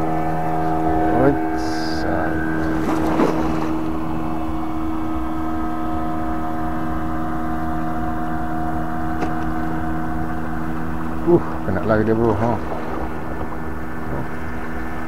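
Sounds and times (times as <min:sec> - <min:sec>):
engine droning steadily: 0:00.0 - 0:15.0.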